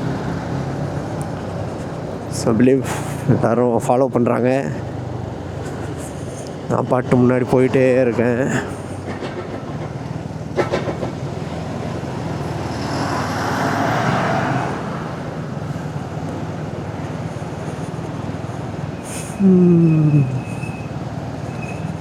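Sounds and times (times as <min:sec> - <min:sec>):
motorcycle engine hum: 0:00.0 - 0:22.0
wind and road noise: 0:00.0 - 0:22.0.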